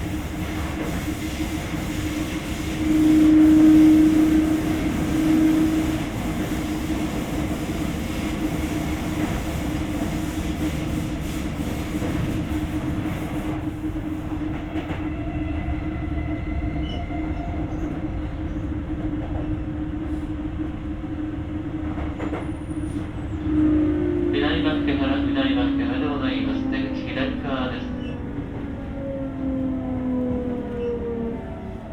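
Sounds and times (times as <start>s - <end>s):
train wheels on rail: 0.0s - 31.9s.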